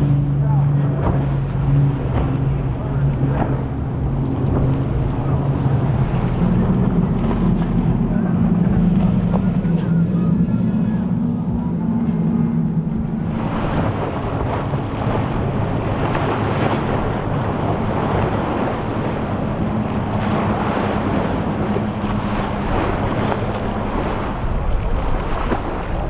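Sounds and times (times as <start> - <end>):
rushing water and spray: 0.0 - 11.3, 12.0 - 26.0
outboard engines droning: 0.0 - 26.0
wind buffeting microphone: 0.0 - 26.0.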